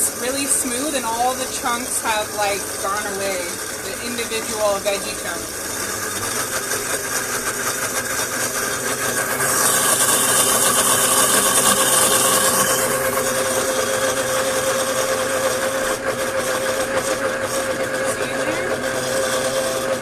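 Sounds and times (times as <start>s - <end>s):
blender motor running: 0.0s - 20.0s.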